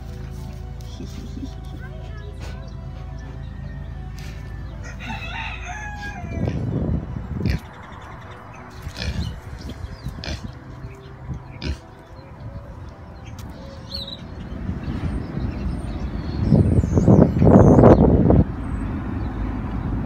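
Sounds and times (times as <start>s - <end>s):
outdoor rumble and rushing noise: 0.0s - 20.0s
small birds chirping: 0.0s - 20.0s.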